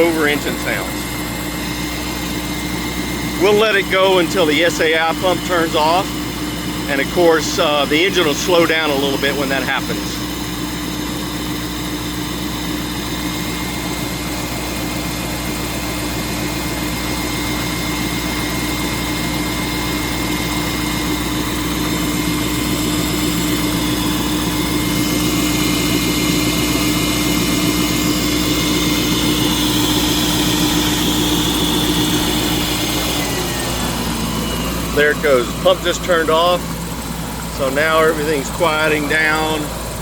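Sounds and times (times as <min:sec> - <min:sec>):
air pump running: 0:00.0 - 0:40.0
engine cooling fan: 0:00.0 - 0:40.0
engine idling: 0:00.0 - 0:40.0.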